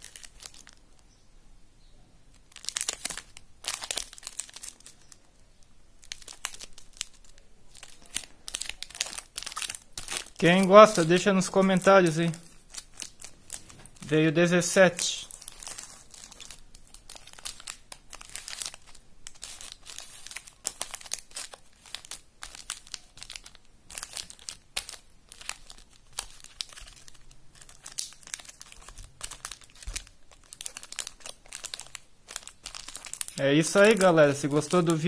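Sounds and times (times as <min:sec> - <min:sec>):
wrappers crinkling: 0:00.0 - 0:00.8, 0:02.3 - 0:05.4, 0:06.0 - 0:35.0.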